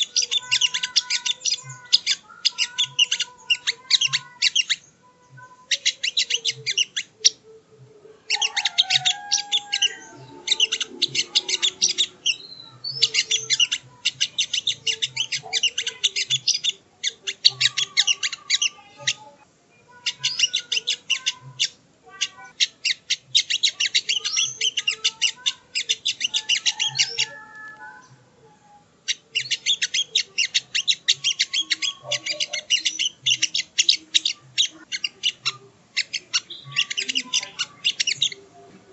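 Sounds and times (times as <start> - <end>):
bird singing chattering phrases: 0.0 - 38.9.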